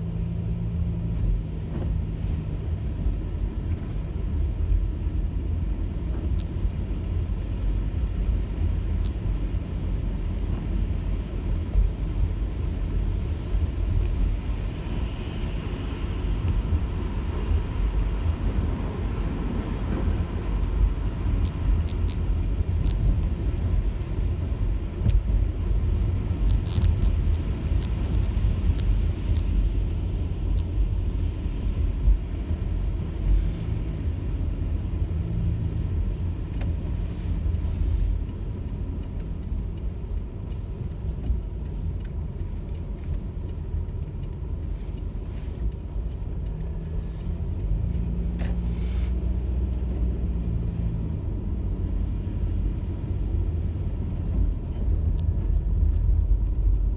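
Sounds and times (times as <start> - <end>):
car engine and road noise: 0.0 - 56.9.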